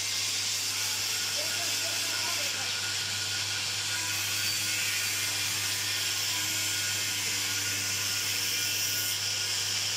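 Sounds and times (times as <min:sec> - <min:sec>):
workshop machinery humming: 0:00.0 - 0:09.9.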